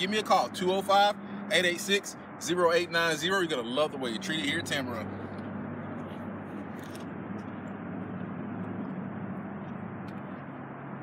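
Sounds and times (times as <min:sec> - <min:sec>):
low outdoor hum: 0:00.0 - 0:11.0.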